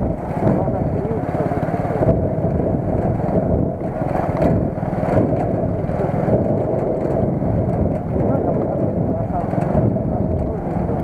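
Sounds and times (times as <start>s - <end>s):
moped engine running: 0.0s - 11.0s.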